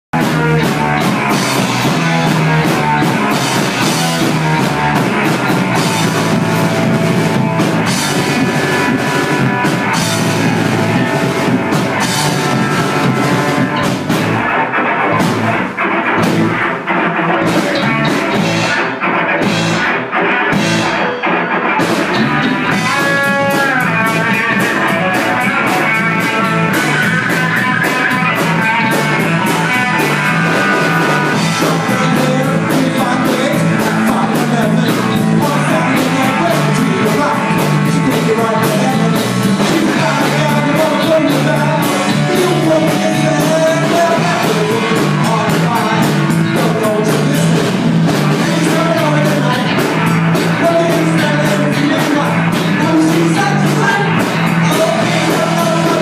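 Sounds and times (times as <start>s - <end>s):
guitar: 0.0s - 56.0s
drum kit beat: 0.1s - 56.0s
instrumental rock music: 0.1s - 56.0s.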